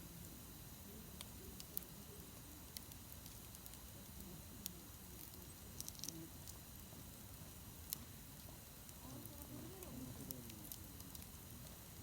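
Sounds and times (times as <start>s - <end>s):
campfire crackling and popping: 0.2s - 12.0s.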